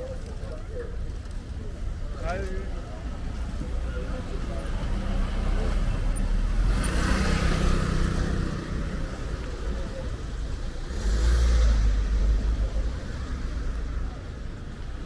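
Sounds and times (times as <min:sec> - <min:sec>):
vehicles passing close by: 0:00.0 - 0:15.0.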